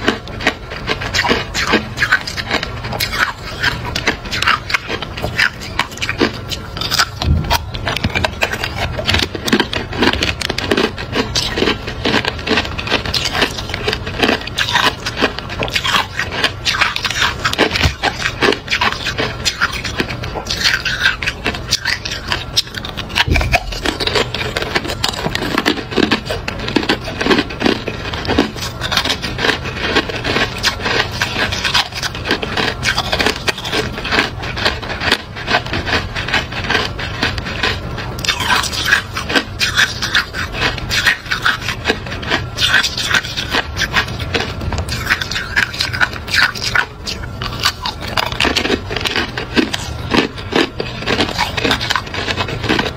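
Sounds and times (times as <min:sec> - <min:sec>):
ice cubes crunching in mouth: 0:00.0 - 0:52.9.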